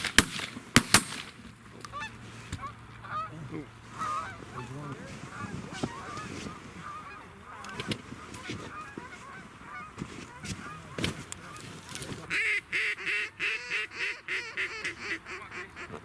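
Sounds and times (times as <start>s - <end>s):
geese honking: 1.7s - 16.0s.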